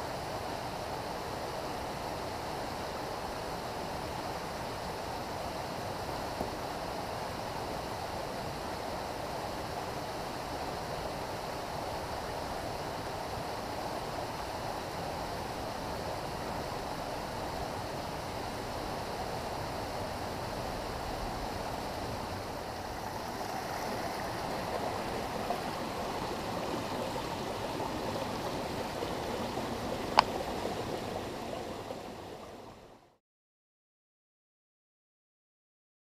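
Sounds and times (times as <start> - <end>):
stream flowing over rocks: 0.1 - 33.2.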